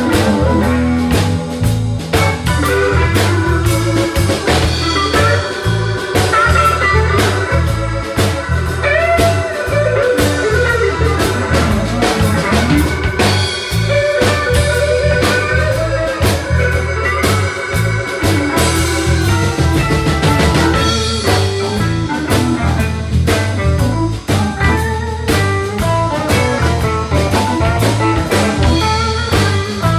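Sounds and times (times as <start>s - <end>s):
bass guitar: 0.0s - 29.9s
electric guitar lead: 0.0s - 29.9s
keyboard: 0.0s - 29.9s
steady drum beat: 0.0s - 29.9s.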